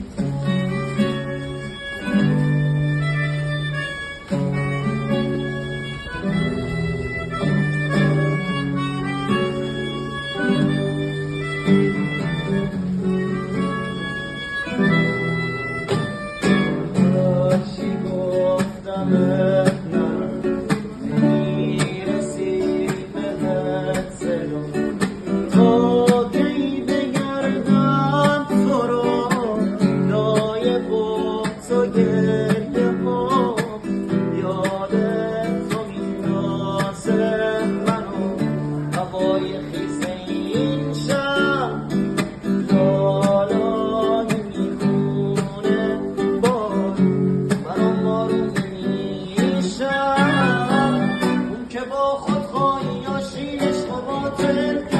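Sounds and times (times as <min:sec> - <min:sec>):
acoustic guitar strumming: 0:00.0 - 0:54.9.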